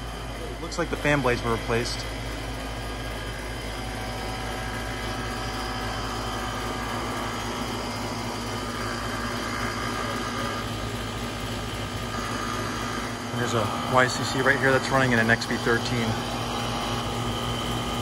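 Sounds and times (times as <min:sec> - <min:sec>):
air conditioning units humming: 0:00.0 - 0:18.0.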